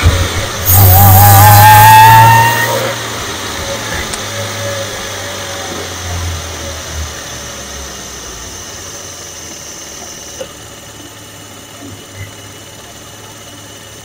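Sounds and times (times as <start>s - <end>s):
supercharger whine: 0.0s - 14.0s.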